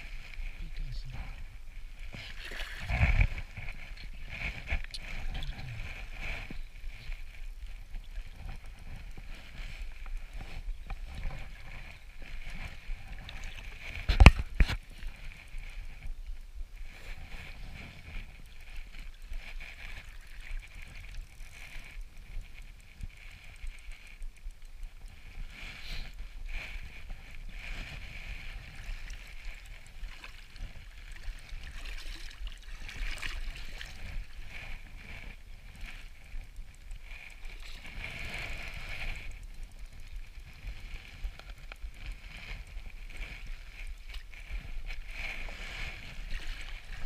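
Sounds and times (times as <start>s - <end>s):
water sloshing around a boat: 0.0s - 16.0s, 16.8s - 23.7s, 26.1s - 47.0s.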